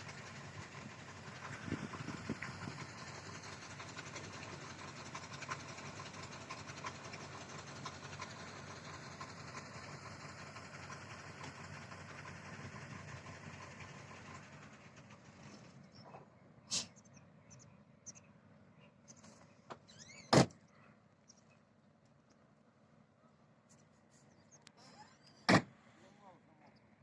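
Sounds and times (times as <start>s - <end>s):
engine running with ticks: 0.0s - 23.0s, 23.6s - 25.8s.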